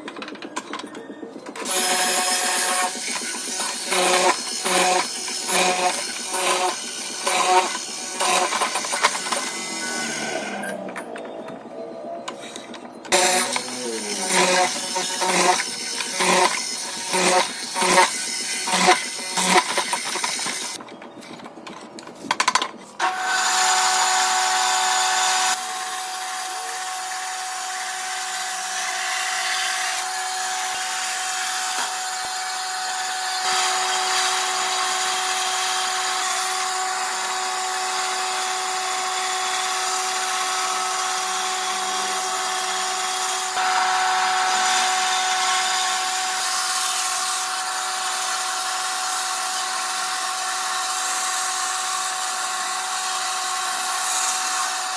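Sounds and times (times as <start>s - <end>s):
power tool cutting wood: 0.0s - 11.2s, 12.3s - 20.8s, 23.0s - 54.9s.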